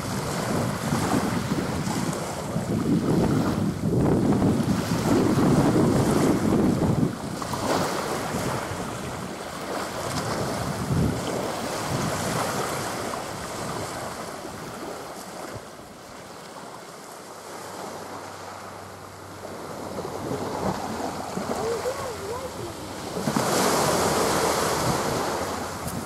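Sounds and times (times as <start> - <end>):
wind buffeting microphone: 0.0 - 16.2, 17.6 - 26.0
small waves washing onto beach: 0.0 - 26.0.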